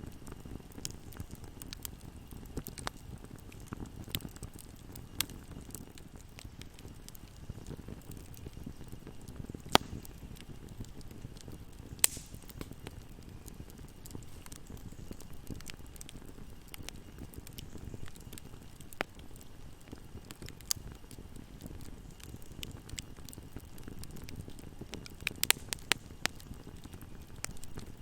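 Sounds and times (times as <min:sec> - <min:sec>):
fire crackling and popping: 0:00.0 - 0:28.0
flames rumbling: 0:00.0 - 0:28.0.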